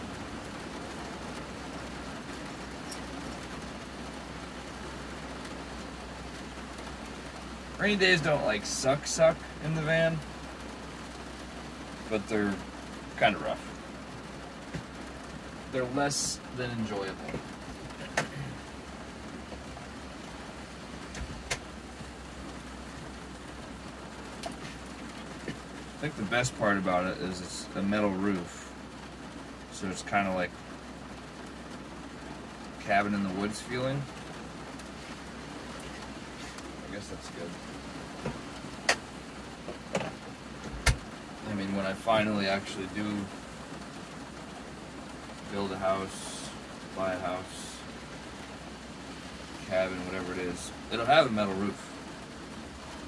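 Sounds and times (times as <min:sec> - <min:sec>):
rain on a metal roof: 0:00.0 - 0:53.0.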